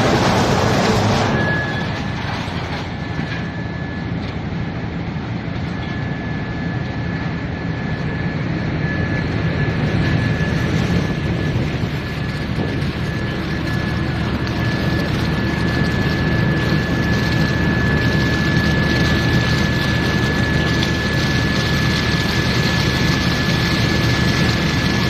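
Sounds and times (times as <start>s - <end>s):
wood chipper running: 0.0s - 6.2s, 8.7s - 25.0s.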